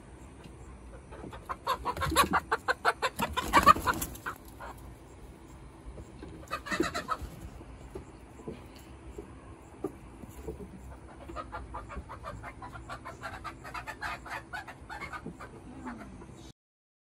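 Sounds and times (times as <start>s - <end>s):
chickens clucking: 0.0s - 16.5s.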